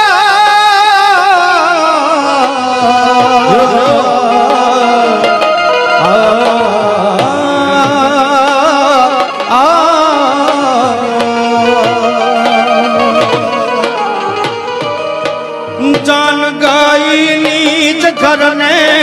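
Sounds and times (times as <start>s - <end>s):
drum accompaniment: 0.0s - 19.0s
wavering wordless melody: 0.0s - 19.0s.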